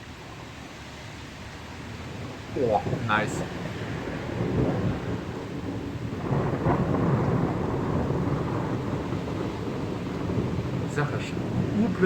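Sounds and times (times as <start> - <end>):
thunder rumbling: 2.2 - 12.0.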